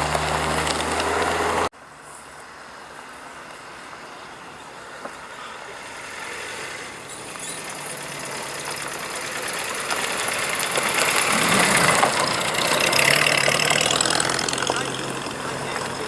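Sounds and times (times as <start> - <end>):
car engine approaching: 0.0 - 16.0.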